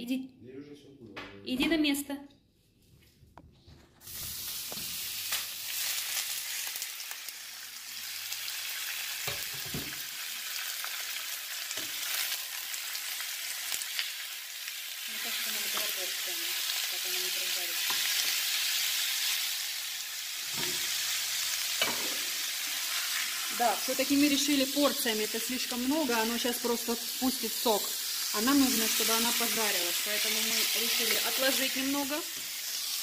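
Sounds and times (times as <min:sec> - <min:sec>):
beef sizzling in hot oil: 0:04.0 - 0:33.0.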